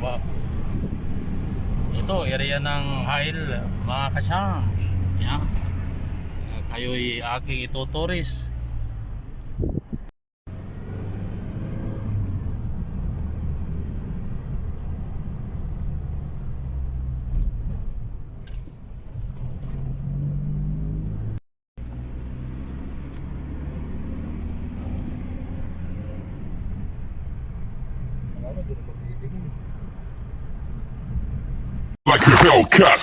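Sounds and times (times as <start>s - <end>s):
vehicle engine rumble: 0.0s - 32.4s
road noise: 0.0s - 33.0s.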